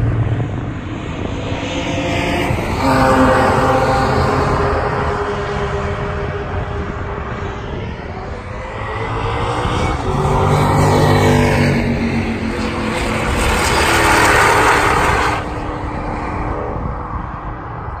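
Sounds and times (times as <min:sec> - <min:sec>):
distant race cars running: 0:00.0 - 0:18.0
race car passing at full throttle: 0:00.0 - 0:18.0.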